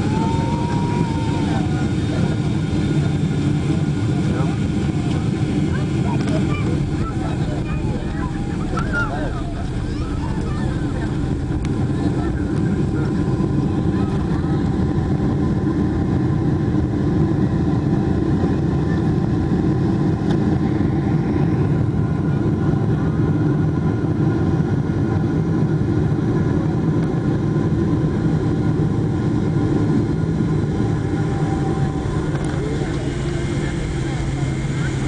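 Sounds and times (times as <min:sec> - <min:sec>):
aircraft cabin engine drone: 0:00.0 - 0:35.0.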